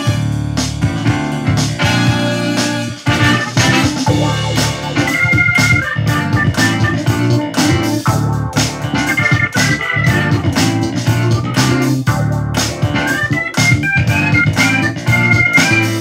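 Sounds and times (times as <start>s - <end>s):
keyboard music over speaker: 0.0s - 16.0s.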